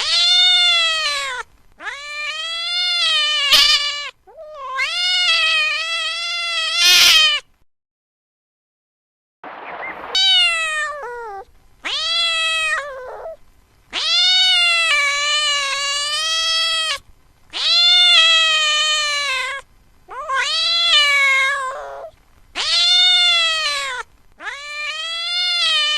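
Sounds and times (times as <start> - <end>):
cat meowing: 0.0 - 7.5, 10.0 - 25.9.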